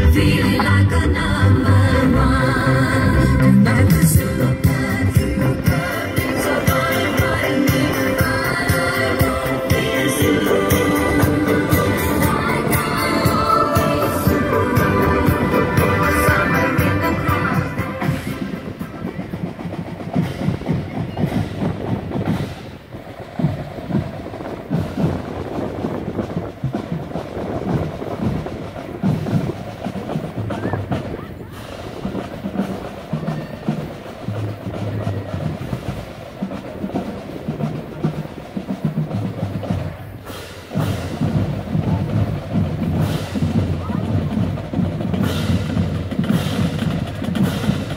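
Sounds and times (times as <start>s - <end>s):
marching band drums: 0.0s - 47.9s.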